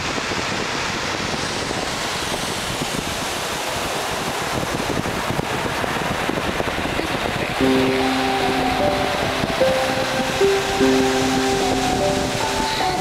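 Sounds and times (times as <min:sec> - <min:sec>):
surf hissing on beach: 0:00.0 - 0:13.0
wind buffeting microphone: 0:00.0 - 0:13.0.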